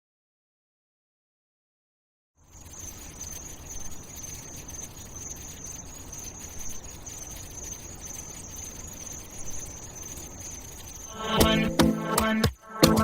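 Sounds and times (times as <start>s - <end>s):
faint crackling noise: 2.4s - 13.0s
high-pitched hum: 2.5s - 13.0s.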